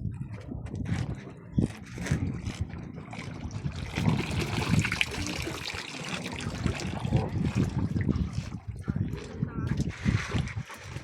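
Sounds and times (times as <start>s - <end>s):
camel drinking: 0.0s - 11.0s
water sloshing and trickling: 0.0s - 11.0s.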